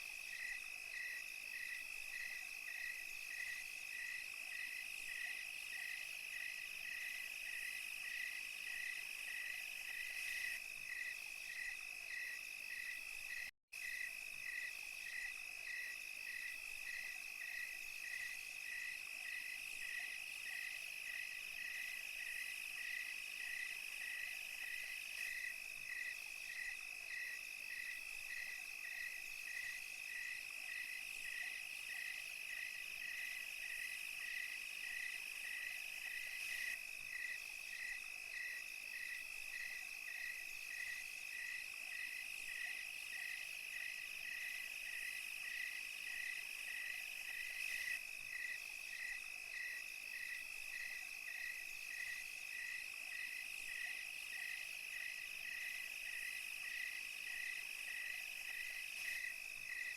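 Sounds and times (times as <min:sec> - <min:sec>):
cricket chirping in pulses: 0:00.0 - 0:59.9
high hiss of insects: 0:00.0 - 0:59.9
crickets trilling: 0:00.2 - 0:59.9.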